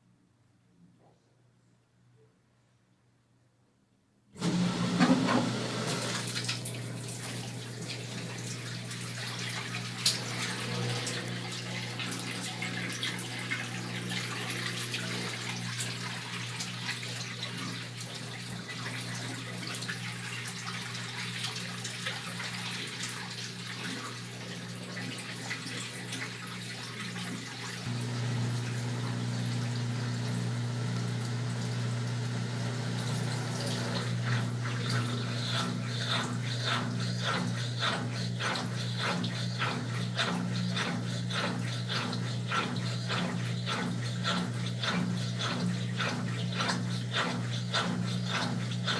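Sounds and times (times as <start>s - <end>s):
washing machine motor hum: 4.4s - 48.9s
washing machine water splashing: 4.4s - 48.9s.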